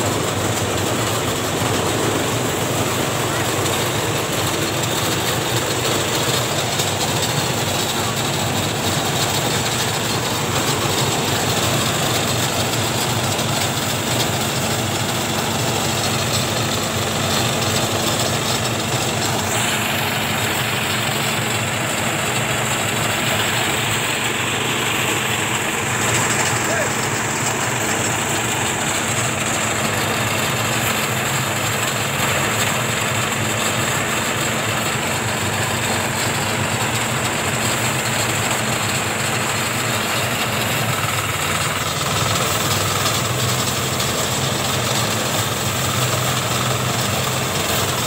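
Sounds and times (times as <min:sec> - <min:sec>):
rice thresher engine running: 0:00.0 - 0:48.0.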